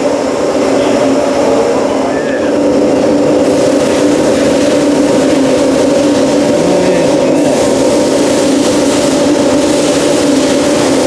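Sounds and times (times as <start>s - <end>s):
factory machinery hum: 0.0s - 11.0s.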